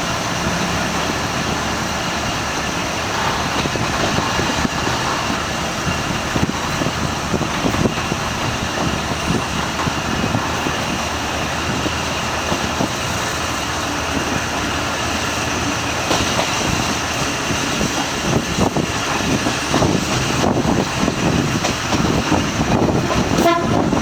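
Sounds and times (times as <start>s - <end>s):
diesel railcar passing: 0.0s - 24.0s
train wheels knocking: 0.0s - 24.0s.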